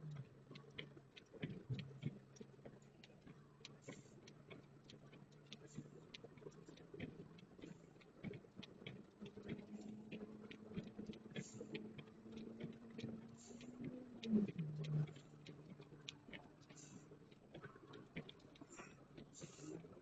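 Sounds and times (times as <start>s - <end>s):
faint clicks and crackles: 0.0s - 20.0s.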